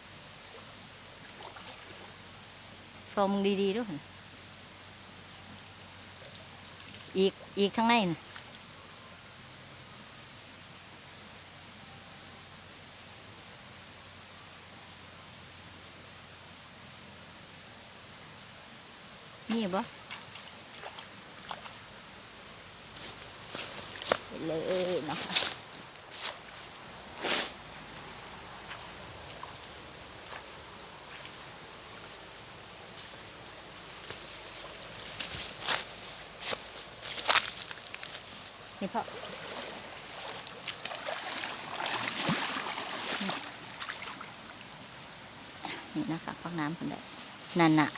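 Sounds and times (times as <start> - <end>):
high-pitched outdoor hiss: 0.0 - 47.9
insects droning: 0.0 - 47.9.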